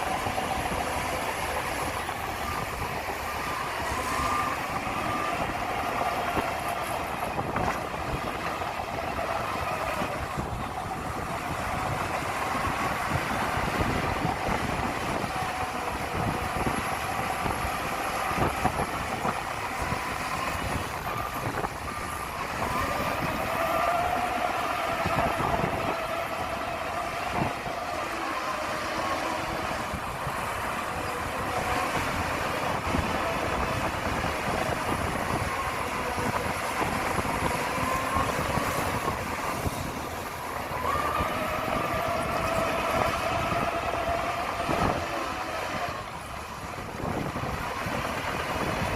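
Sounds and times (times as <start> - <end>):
diesel engine under load: 0.0 - 48.9
whining tones: 0.0 - 48.9.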